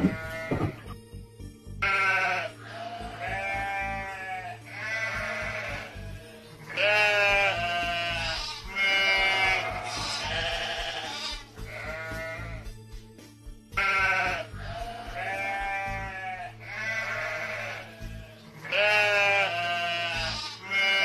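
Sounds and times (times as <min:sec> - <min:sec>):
bleat-like animal calls: 0:00.0 - 0:00.9, 0:01.8 - 0:12.6, 0:13.8 - 0:21.0
background music: 0:00.0 - 0:21.0.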